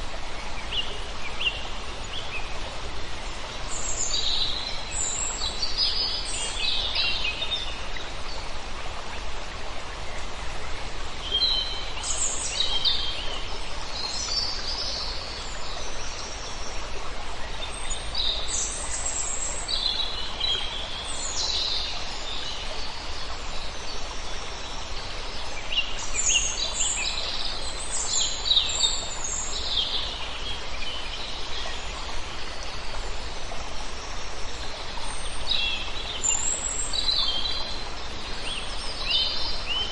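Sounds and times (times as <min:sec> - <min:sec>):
flowing water rushing: 0:00.0 - 0:39.9
songbirds chirping: 0:00.0 - 0:39.9.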